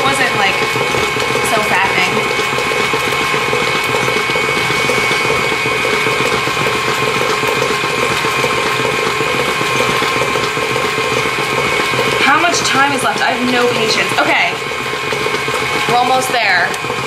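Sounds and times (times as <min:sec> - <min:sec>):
stand mixer running: 0:00.0 - 0:17.0.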